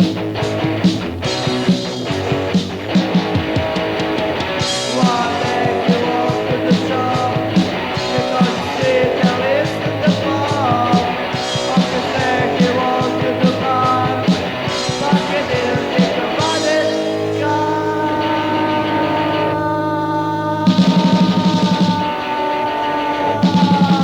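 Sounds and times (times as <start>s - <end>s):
drum kit beat: 0.0s - 17.8s, 20.7s - 22.2s, 23.3s - 24.0s
electric guitars: 0.0s - 24.0s
person singing: 4.7s - 24.0s.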